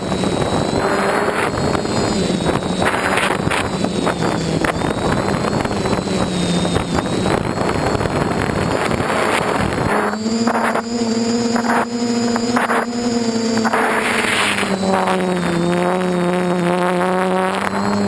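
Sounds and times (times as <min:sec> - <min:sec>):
drone motors and propellers: 0:00.0 - 0:18.0
wind buffeting on microphone: 0:00.0 - 0:18.0.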